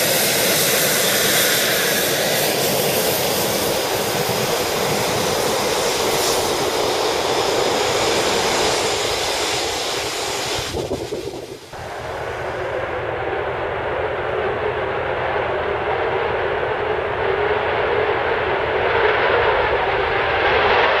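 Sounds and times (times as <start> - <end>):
jet engines rushing: 0.0 - 21.0.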